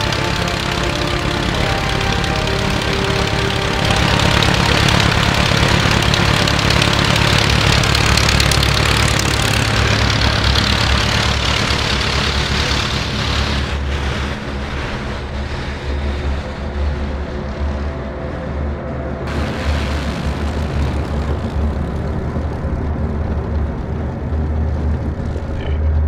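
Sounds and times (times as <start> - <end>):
plane engine and propeller: 0.0 - 26.0.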